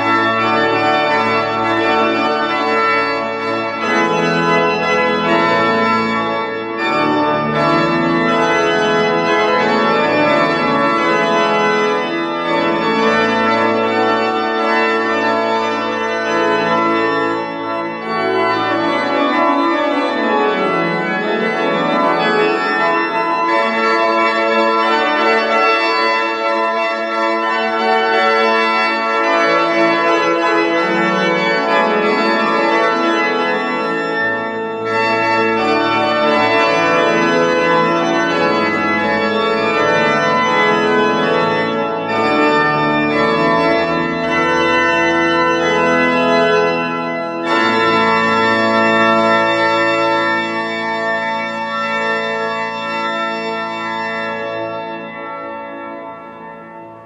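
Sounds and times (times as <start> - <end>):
pipe organ sustained chords: 0.0 - 57.0.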